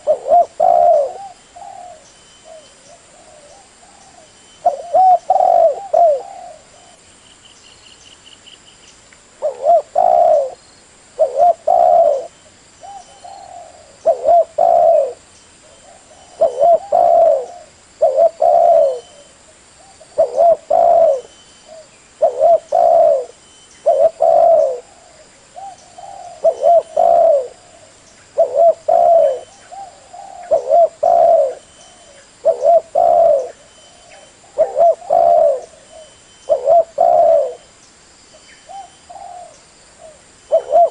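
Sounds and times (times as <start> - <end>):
dove cooing: 0.0 - 7.0, 9.4 - 10.6, 11.2 - 37.7, 38.6 - 40.9.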